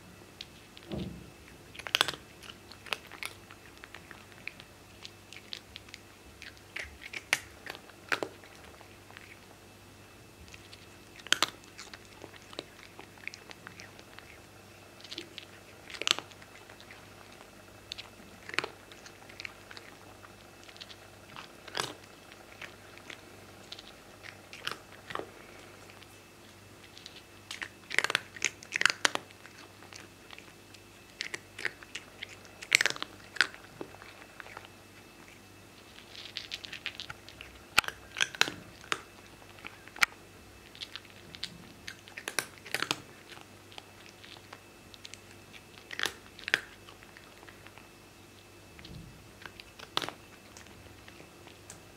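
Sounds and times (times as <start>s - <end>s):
cat crunching dry kibble: 0.4s - 9.7s, 10.4s - 51.9s.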